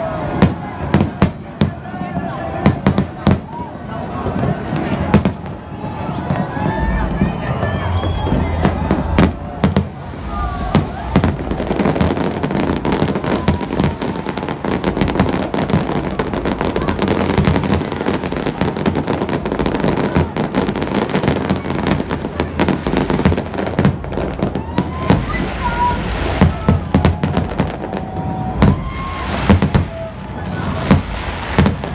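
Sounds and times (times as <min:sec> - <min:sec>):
fireworks bursting with bangs: 0:00.0 - 0:31.9.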